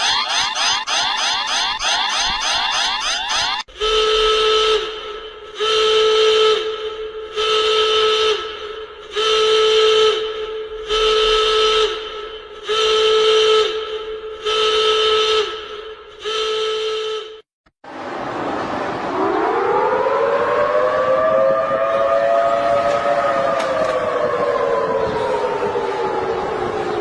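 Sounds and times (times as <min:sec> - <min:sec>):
emergency alarm horn blasts: 0:00.0 - 0:17.5, 0:19.1 - 0:27.0.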